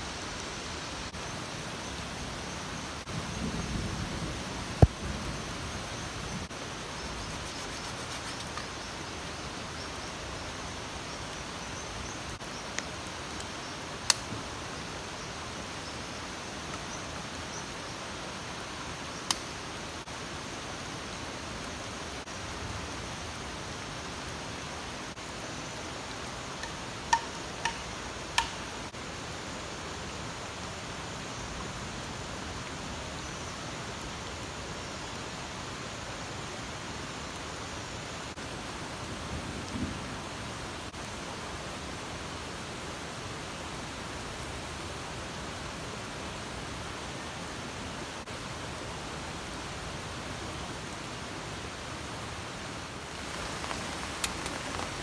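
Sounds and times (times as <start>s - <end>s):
hiss of falling water: 0.0s - 55.0s.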